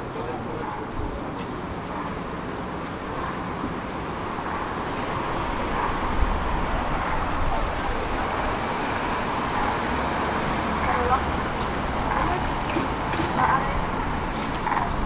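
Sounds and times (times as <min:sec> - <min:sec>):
tram rumbling along tracks: 0:00.0 - 0:15.0.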